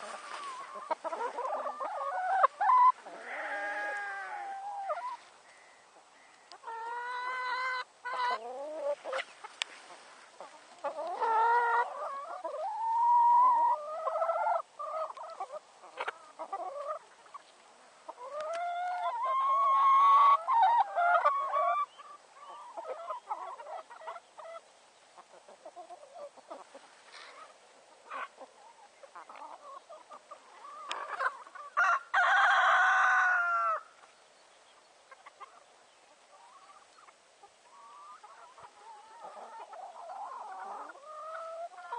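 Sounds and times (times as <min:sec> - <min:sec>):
hens clucking and calling: 0:00.0 - 0:41.9.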